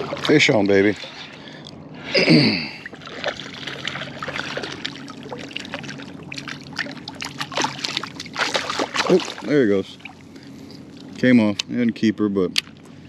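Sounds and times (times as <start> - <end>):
water splashing: 0.0 - 11.2
steady low hum: 0.0 - 13.0.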